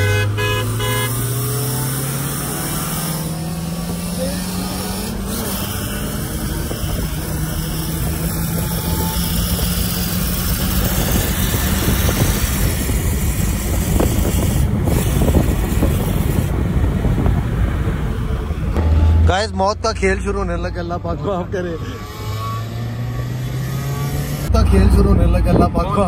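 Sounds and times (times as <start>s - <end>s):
road and wind roar: 0.0s - 26.0s.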